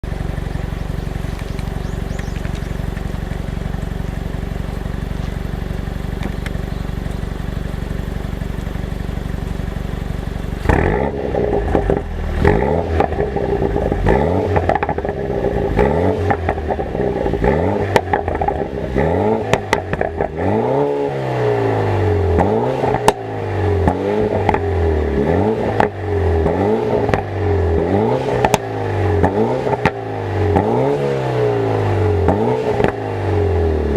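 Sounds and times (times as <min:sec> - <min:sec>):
car engine revving: 0:00.0 - 0:33.9
exhaust pops and crackles: 0:00.1 - 0:20.7, 0:22.3 - 0:24.7, 0:25.6 - 0:27.4, 0:28.4 - 0:30.7, 0:32.2 - 0:33.0.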